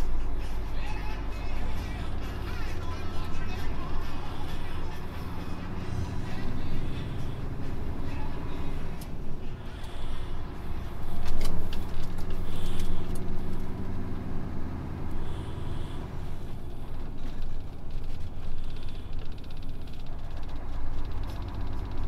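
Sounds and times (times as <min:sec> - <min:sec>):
road noise: 0:00.0 - 0:22.0
truck engine running: 0:00.0 - 0:22.0.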